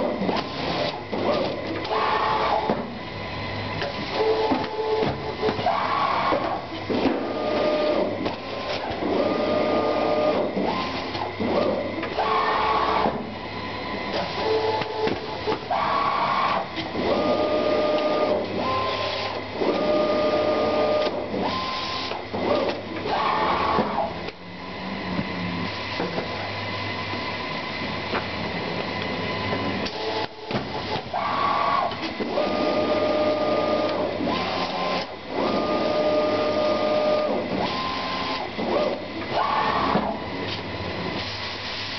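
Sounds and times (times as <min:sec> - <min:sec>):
machine motor whining: 0:00.0 - 0:41.4.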